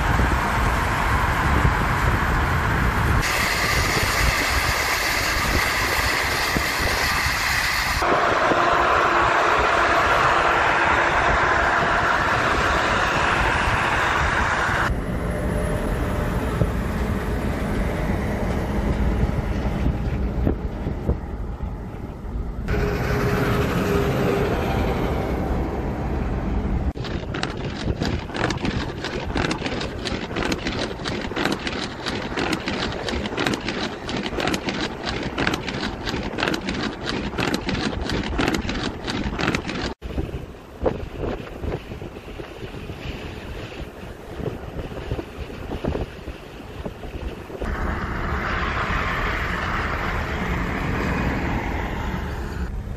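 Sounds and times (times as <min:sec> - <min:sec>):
trucks passing on highway: 0:00.0 - 0:52.9
wind buffeting microphone: 0:00.0 - 0:52.9.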